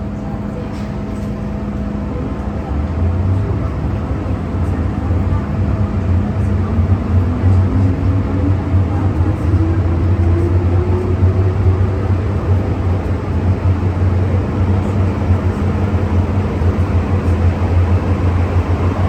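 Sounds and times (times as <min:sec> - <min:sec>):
train rumble and hum: 0:00.0 - 0:19.0.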